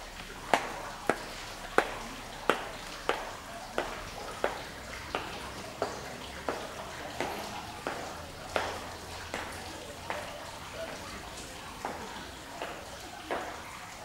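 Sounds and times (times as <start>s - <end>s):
high heels clicking on tiles: 0.0s - 14.0s.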